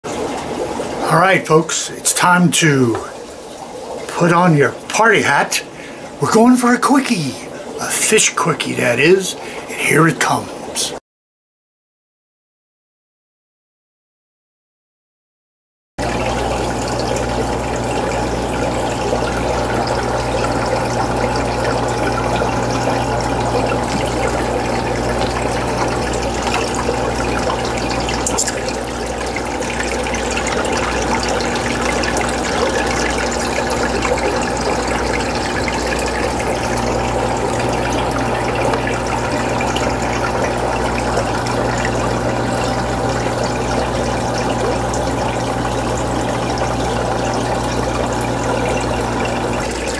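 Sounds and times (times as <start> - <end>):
aquarium pump humming: 0.1 - 11.0, 16.0 - 49.9.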